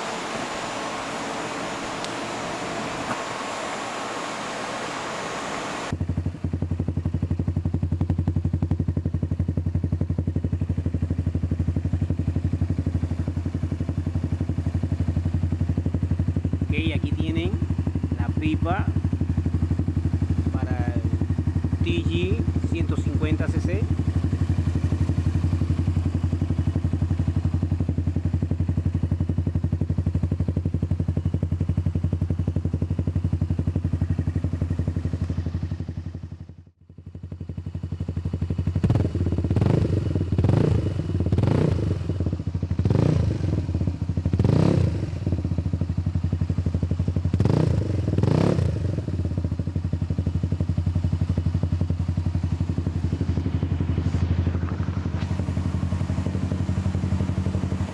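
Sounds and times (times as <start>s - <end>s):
buggy engine idling and revving: 5.7s - 57.9s.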